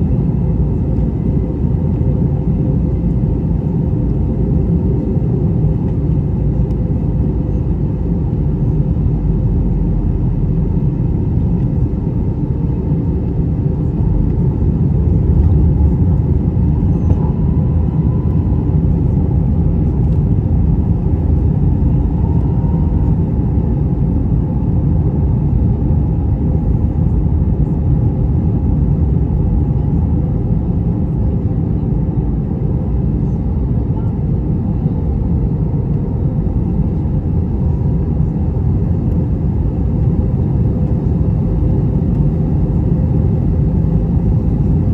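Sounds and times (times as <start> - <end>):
airplane cabin engine rumble: 0.0 - 44.9.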